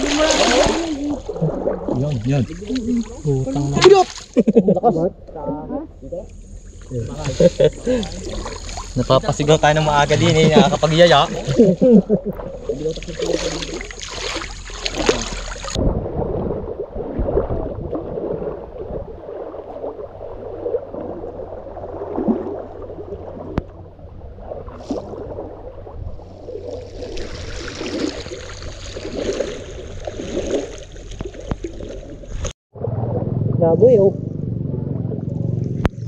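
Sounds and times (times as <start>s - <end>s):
river water sloshing and gurgling: 0.0s - 4.7s, 6.0s - 36.0s.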